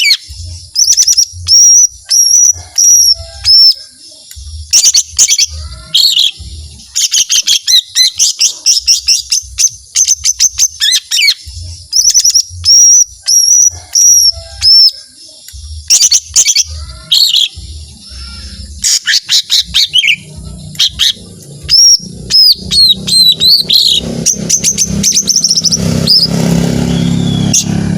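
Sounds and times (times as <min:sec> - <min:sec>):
bird singing with chattering whistles: 0:00.0 - 0:27.9.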